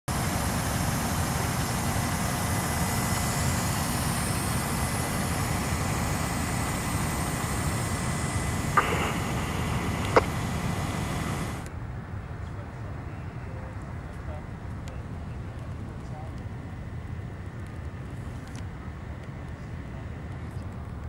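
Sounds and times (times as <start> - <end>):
faint high whine: 0.1 - 21.0
fire engine idling: 0.1 - 21.0.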